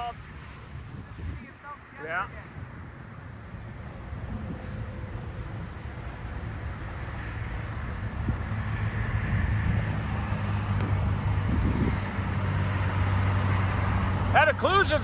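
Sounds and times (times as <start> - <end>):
car engine and road hum: 0.0 - 15.0
wind noise: 0.0 - 15.0.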